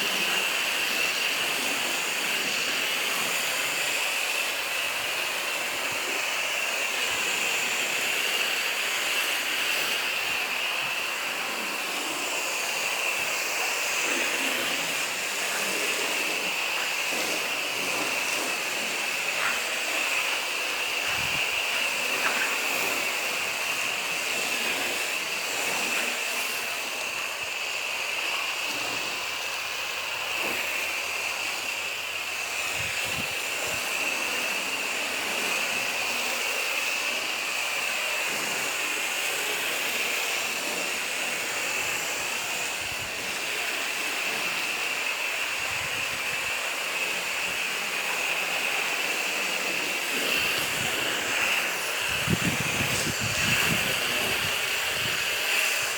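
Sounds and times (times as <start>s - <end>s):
foam gun spraying hiss: 0.0s - 55.9s.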